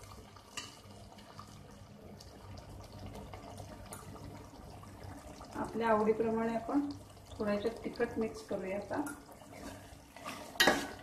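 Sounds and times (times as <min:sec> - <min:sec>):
curry bubbling in a pot: 0:00.0 - 0:11.0.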